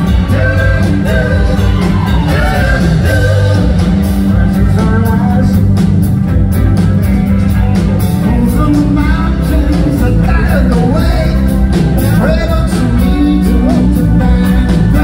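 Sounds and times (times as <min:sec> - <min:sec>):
lead vocals singing: 0:00.0 - 0:05.7, 0:08.2 - 0:15.0
live rock band playing: 0:00.0 - 0:15.0.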